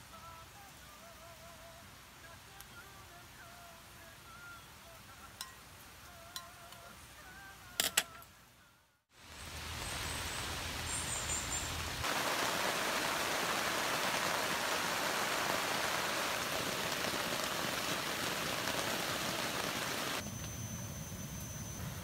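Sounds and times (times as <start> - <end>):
rain on tent fabric: 0.0 - 7.6, 9.1 - 20.5
steady rain in forest: 0.0 - 7.8, 9.1 - 20.9.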